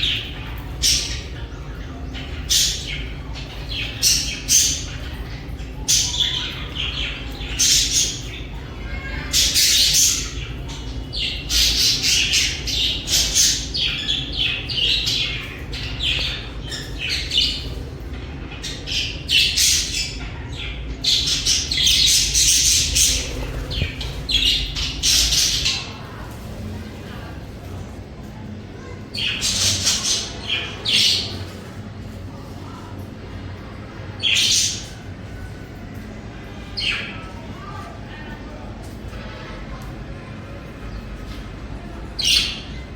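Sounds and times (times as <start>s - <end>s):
budgerigars chirping and chattering: 0.0s - 27.3s, 28.8s - 31.8s, 34.0s - 35.2s, 36.6s - 38.4s, 40.9s - 42.9s.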